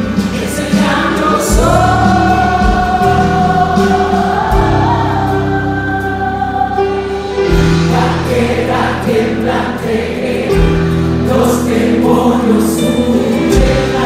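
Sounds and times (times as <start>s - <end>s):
bass and keyboard: 0.0s - 14.0s
women singing worship song: 0.0s - 14.0s.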